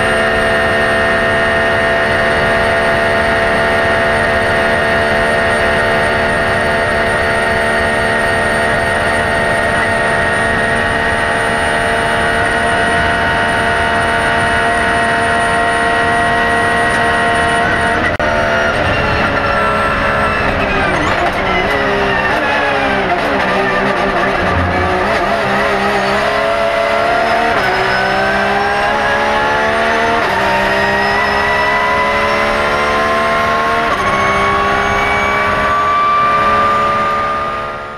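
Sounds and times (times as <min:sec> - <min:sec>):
engine revs falling on downshifts: 0:00.0 - 0:37.9
race car engine at high revs: 0:00.0 - 0:37.9.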